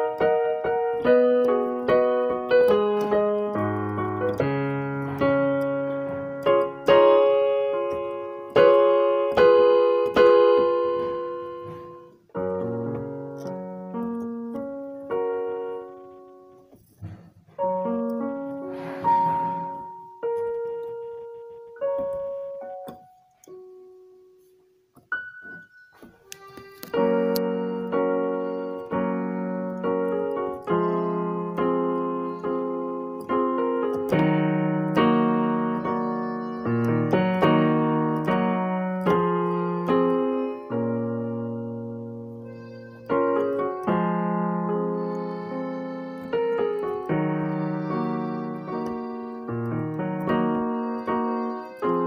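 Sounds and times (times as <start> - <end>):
piano music: 0.0 - 52.0.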